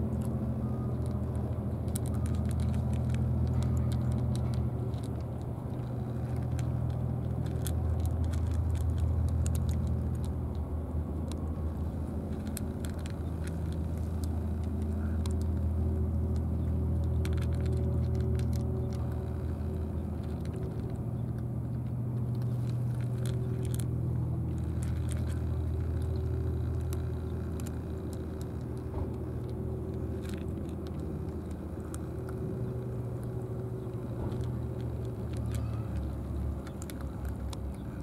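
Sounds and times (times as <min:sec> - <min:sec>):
cats crunching dry kibble: 0:00.0 - 0:38.0
low engine-like hum: 0:00.0 - 0:38.0.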